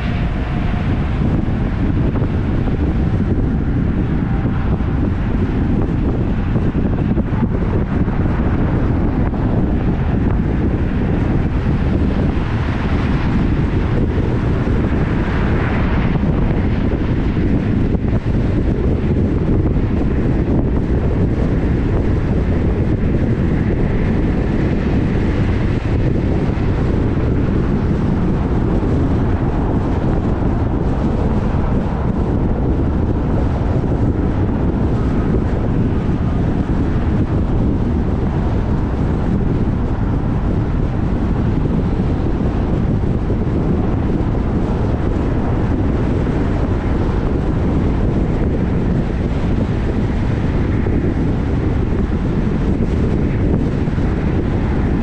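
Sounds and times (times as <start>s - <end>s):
steady low rumble: 0.0s - 55.0s
wind buffeting microphone: 0.0s - 55.0s.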